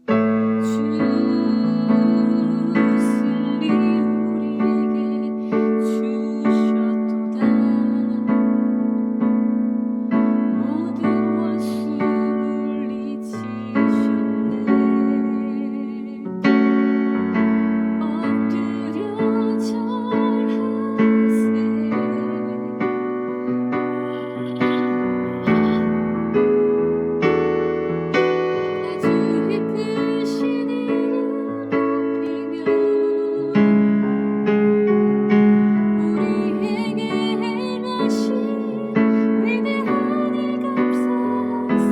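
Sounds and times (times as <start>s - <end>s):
hymn on electric piano: 0.0s - 41.9s.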